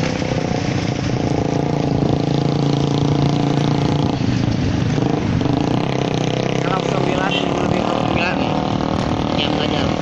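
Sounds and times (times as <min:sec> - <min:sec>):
vehicle engine running: 0:00.0 - 0:10.0
wind and road noise: 0:00.0 - 0:10.0.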